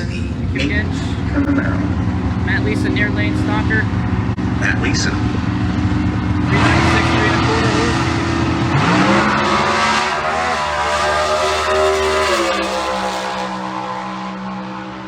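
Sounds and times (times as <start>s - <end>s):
drag car engine revving: 0.0s - 15.0s
tires spinning: 0.0s - 15.0s.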